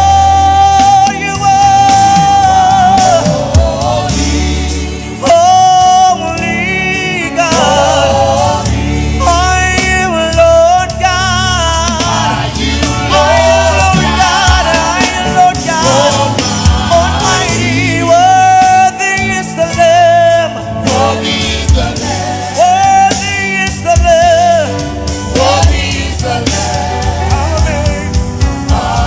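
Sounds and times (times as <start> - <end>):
gospel band with bass and drums: 0.0 - 29.0
person singing with vibrato: 0.0 - 29.0.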